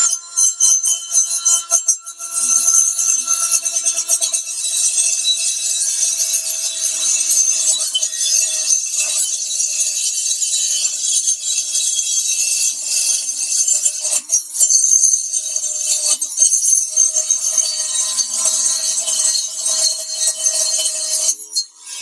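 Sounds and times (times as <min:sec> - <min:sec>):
oscillating tool rasping on metal: 0:00.0 - 0:22.0.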